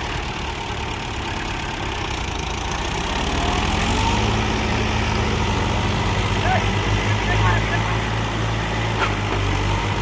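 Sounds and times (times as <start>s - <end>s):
tractor engine revving: 0.0s - 10.0s.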